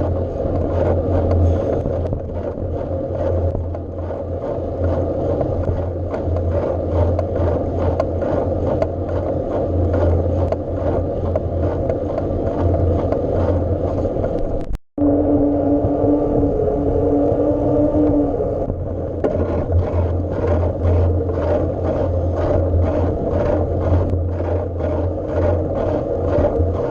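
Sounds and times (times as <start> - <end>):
bike rattles and clicks: 0.0 - 14.8, 18.7 - 26.9
bike riding drone: 0.0 - 26.9.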